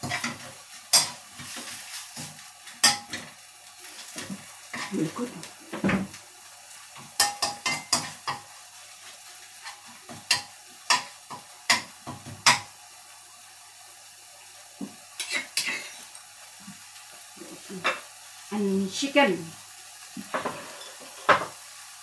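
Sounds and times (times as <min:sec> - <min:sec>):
paste sizzling in wok: 0:00.0 - 0:22.0.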